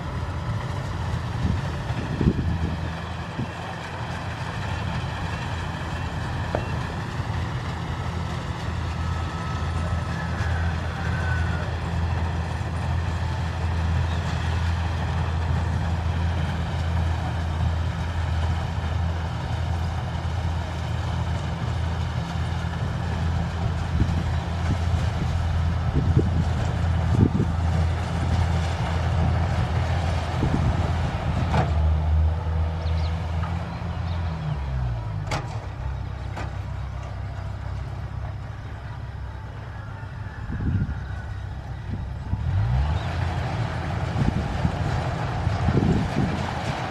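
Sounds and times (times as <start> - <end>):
harvester diesel engine running: 0.0 - 46.9.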